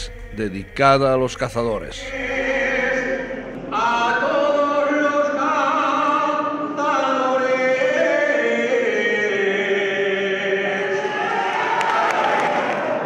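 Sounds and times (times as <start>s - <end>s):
man singing into a microphone: 0.0s - 11.1s.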